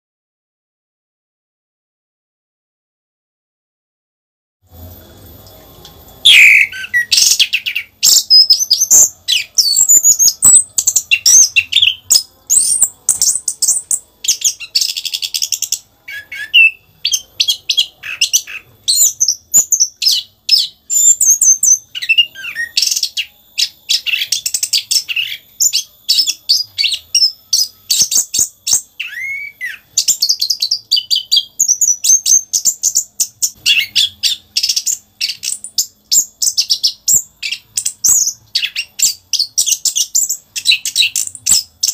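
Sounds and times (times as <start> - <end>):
thrush singing whistles and trills: 6.2 - 41.9.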